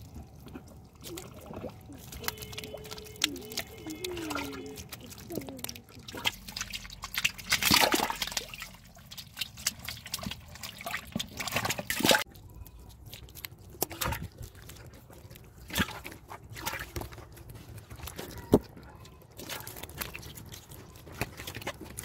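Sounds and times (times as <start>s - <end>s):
fish splashing in water: 0.0s - 22.0s.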